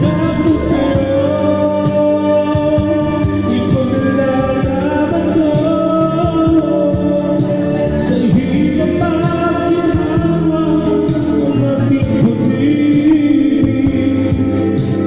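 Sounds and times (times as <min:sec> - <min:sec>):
instrumental backing track: 0:00.0 - 0:15.0
man singing into microphone: 0:00.0 - 0:15.0.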